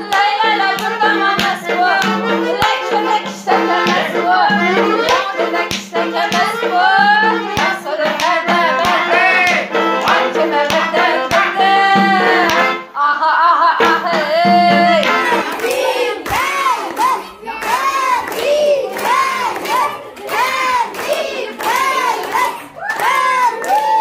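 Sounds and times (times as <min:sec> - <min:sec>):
song with singing: 0:00.0 - 0:24.0.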